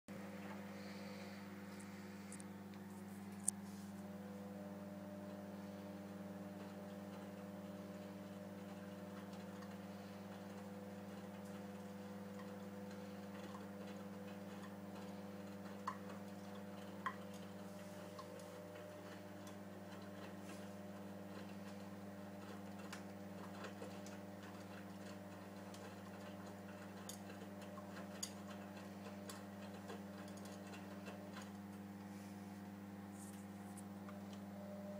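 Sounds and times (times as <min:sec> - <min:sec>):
appliance electrical hum: 0:00.1 - 0:34.9.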